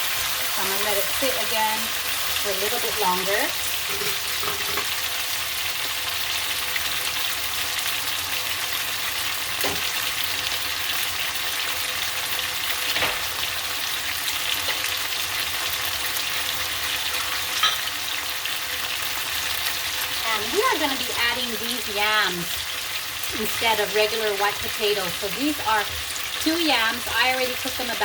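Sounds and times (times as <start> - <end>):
chicken sizzling in a pan: 0.0 - 28.0.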